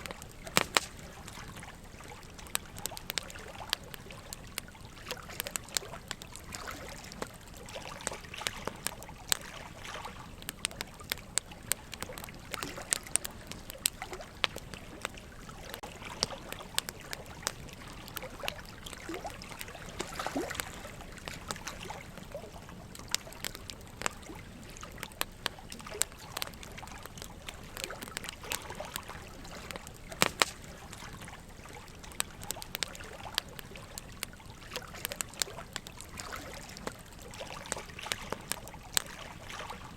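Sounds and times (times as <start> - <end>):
running water trickle: 0.0 - 39.9
wood fire crackling and popping: 0.0 - 39.9.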